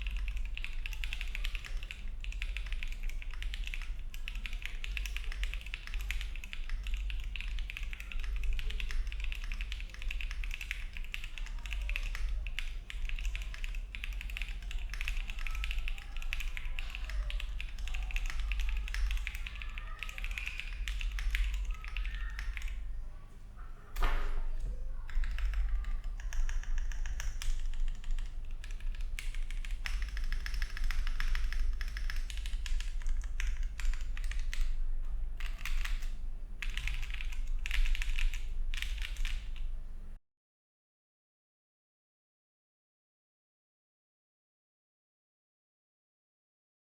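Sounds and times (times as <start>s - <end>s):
mechanical keyboard typing: 0.0s - 22.8s, 24.0s - 39.7s.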